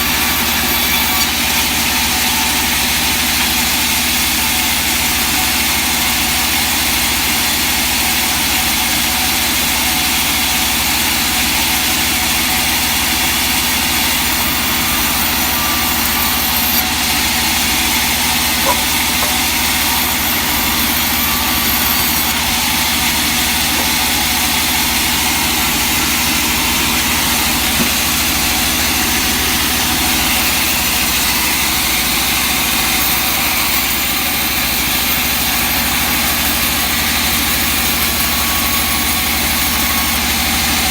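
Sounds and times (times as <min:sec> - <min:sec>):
sawmill machinery hum: 0:00.0 - 0:40.9.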